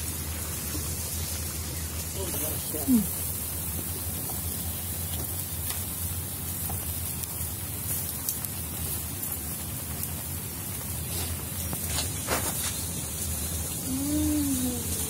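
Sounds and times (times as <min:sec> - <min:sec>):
fire crackling: 0:00.0 - 0:15.0
meat sizzling: 0:00.0 - 0:15.0
rain falling: 0:00.0 - 0:15.0.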